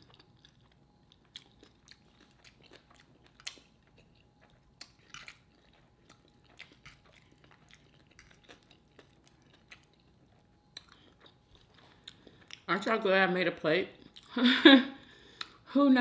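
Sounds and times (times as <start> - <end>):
chewing: 0.0 - 12.9, 14.0 - 14.3
tortilla chips crunching: 0.0 - 12.9.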